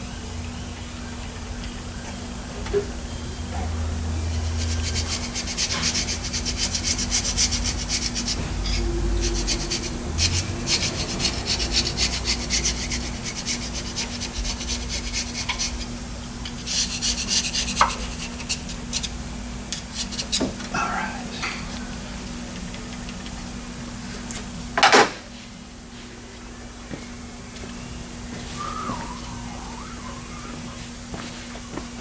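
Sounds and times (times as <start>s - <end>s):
steady low hum: 0.0s - 24.8s, 25.5s - 32.0s.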